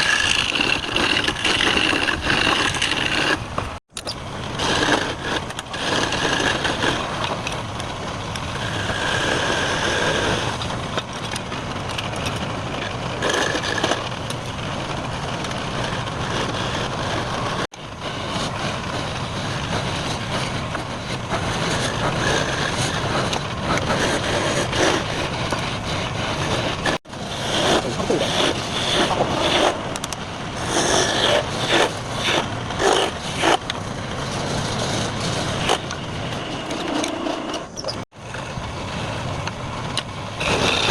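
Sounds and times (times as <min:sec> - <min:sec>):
wood lathe cutting wood: 0:00.0 - 0:07.6, 0:08.3 - 0:10.8, 0:12.8 - 0:37.6, 0:40.4 - 0:40.9.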